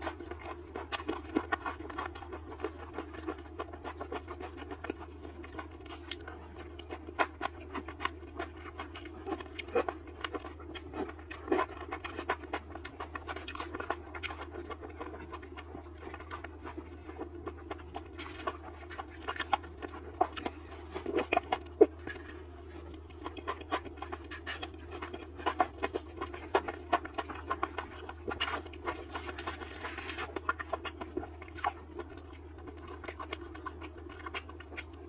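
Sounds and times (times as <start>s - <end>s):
chewing and mouth sounds: 0.0s - 35.0s
steady low hum: 0.0s - 35.0s.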